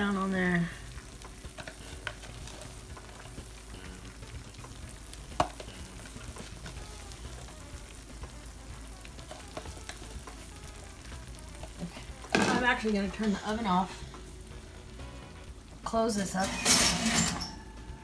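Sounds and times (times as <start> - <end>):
hot food sizzling: 0.0 - 18.0.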